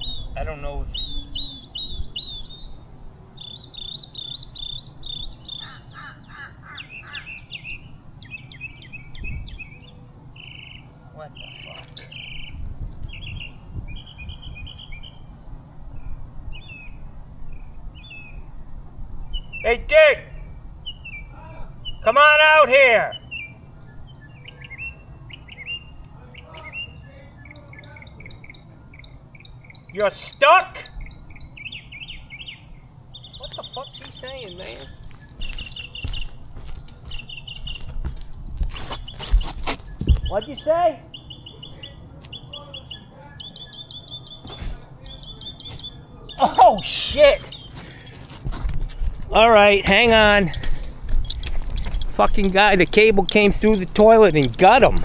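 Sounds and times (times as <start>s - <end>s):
harsh bird calls: 0.0s - 15.4s, 19.3s - 38.2s, 38.8s - 48.4s, 51.8s - 55.0s
birds chirping: 0.0s - 55.0s.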